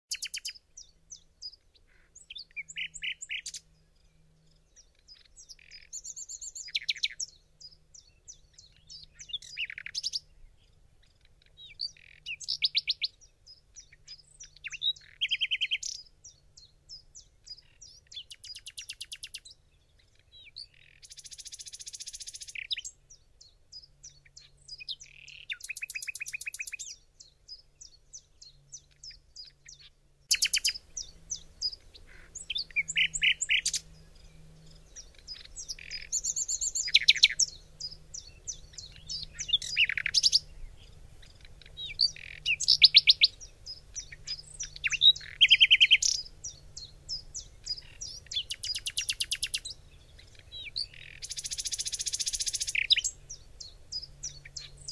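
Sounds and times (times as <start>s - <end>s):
birds singing high trills: 0.1s - 54.9s
scattered bird chirps: 0.1s - 54.9s.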